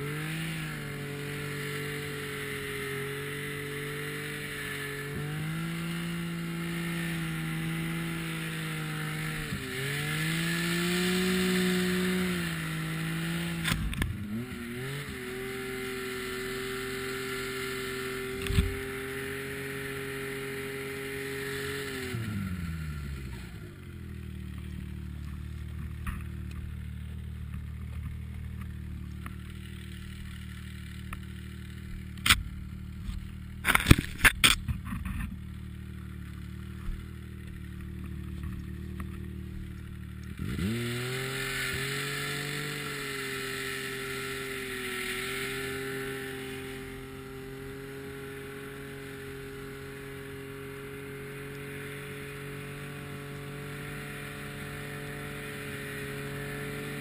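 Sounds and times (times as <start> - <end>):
snowmobile engine: 0.0 - 57.0.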